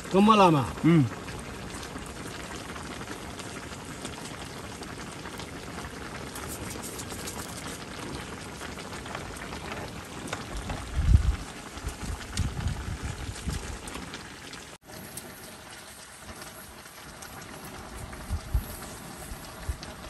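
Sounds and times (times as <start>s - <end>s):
curry bubbling in a wok: 0.0s - 20.0s
wood fire crackling: 0.0s - 20.0s.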